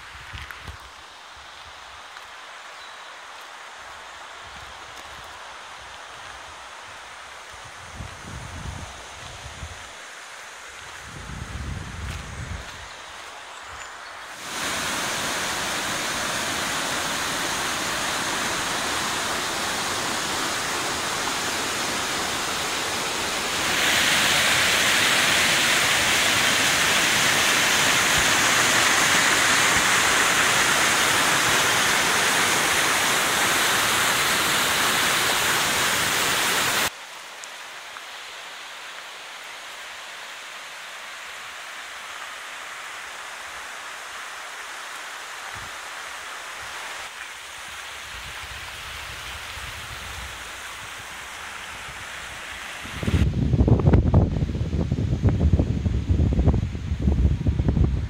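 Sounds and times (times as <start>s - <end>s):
stream rushing over rocks: 0.0s - 54.8s.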